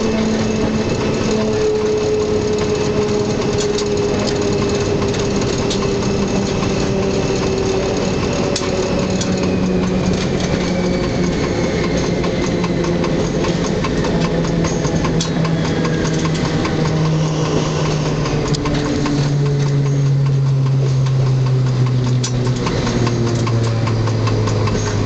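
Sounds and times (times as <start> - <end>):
diesel locomotive engine: 0.0 - 25.0
wheels clicking over rail joints: 0.0 - 25.0.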